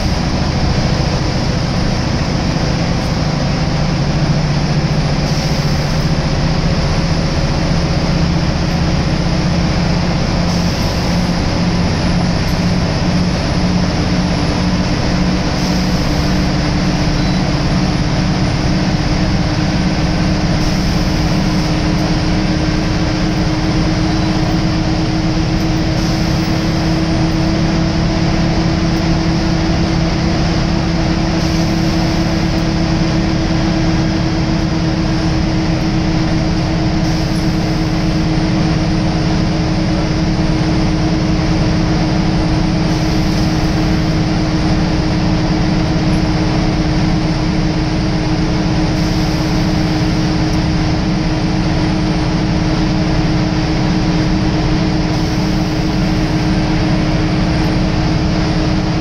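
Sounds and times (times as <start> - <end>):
diesel bus engine drone: 0.0 - 59.0
road and tyre noise: 0.0 - 59.0.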